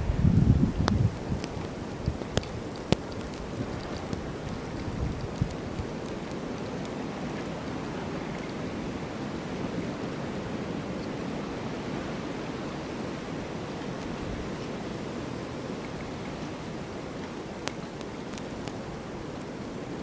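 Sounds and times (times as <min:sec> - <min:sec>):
snowstorm wind blowing: 0:00.0 - 0:20.0.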